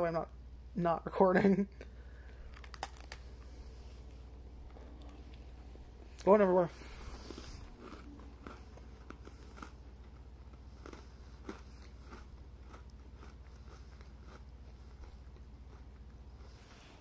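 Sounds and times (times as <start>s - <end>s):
person chewing crunchy cookie: 1.8s - 17.0s.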